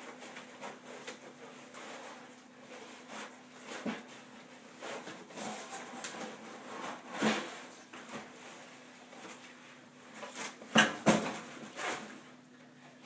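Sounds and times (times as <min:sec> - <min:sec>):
rustling cardboard and fabric: 0:00.0 - 0:12.4.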